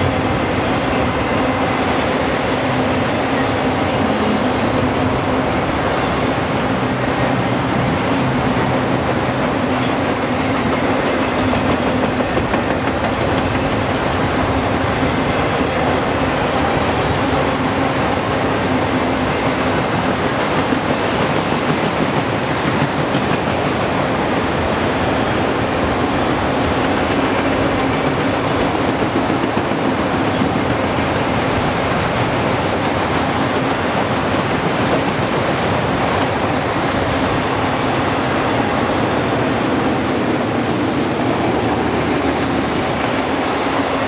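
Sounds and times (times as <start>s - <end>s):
freight train wheels on rails: 0.0s - 44.0s.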